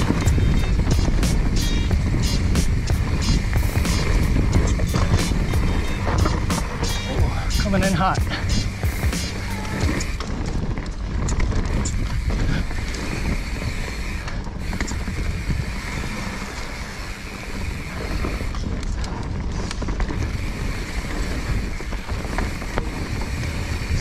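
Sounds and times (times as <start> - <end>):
bike clicks and rattles: 0.0 - 24.0
tyres rumbling on dirt: 0.0 - 24.0
wind on microphone: 0.0 - 24.0.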